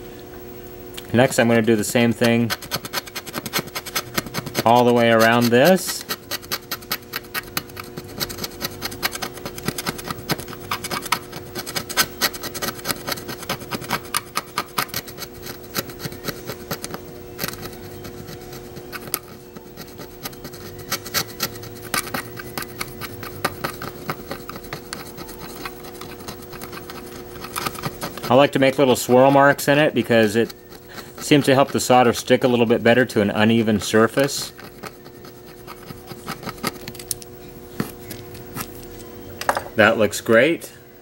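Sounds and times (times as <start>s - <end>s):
screwdriver scratching circuit board: 1.2s - 38.7s.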